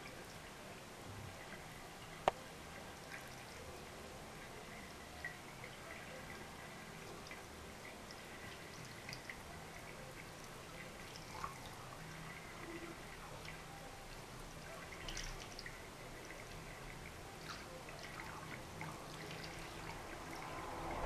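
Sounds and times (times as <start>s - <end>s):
faint drips: 0.0s - 21.0s.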